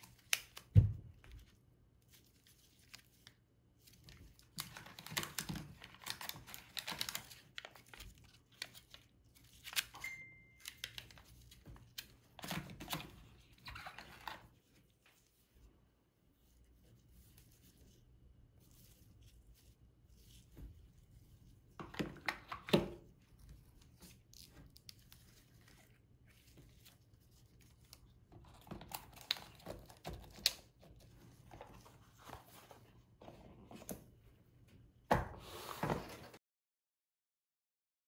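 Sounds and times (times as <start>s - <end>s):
plastic and cardboard handling: 0.0s - 10.0s, 10.6s - 15.4s, 16.5s - 34.3s, 35.1s - 36.4s.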